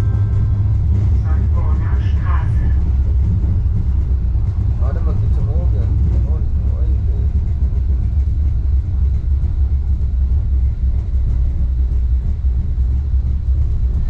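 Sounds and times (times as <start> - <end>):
monorail car rumble: 0.0 - 14.0.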